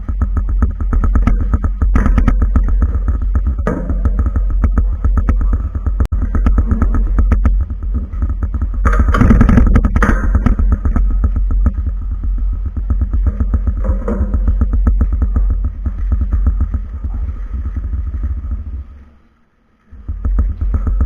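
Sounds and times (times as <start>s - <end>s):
constant low rumble: 0.0s - 21.0s.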